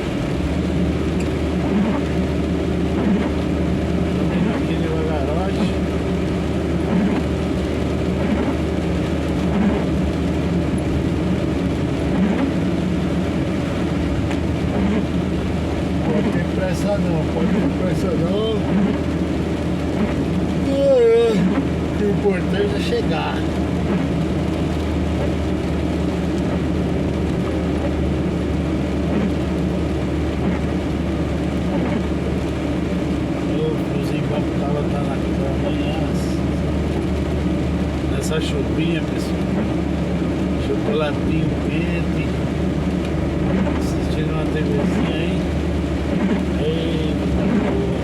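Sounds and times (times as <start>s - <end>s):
road noise: 0.0s - 48.0s
truck diesel engine running: 0.0s - 48.0s.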